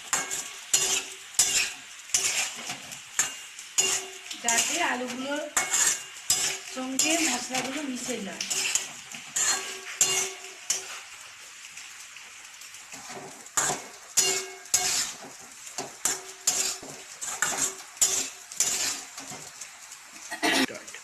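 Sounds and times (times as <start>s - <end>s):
spoon scraping a pan: 0.0s - 11.2s, 12.9s - 19.6s
frying sizzle: 0.0s - 21.0s.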